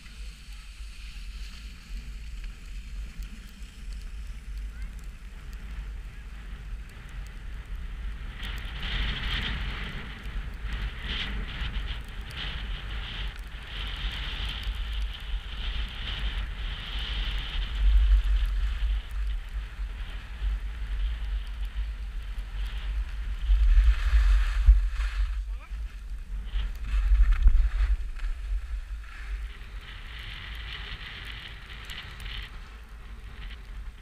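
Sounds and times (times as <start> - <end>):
skis scraping over snow: 0.0 - 34.0
wind buffeting microphone: 0.0 - 34.0.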